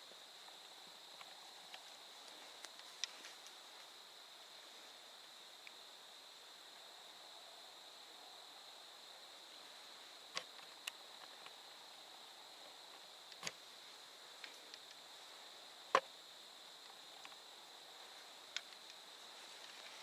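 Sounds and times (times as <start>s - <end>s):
faint high-pitched hum: 0.0s - 20.0s.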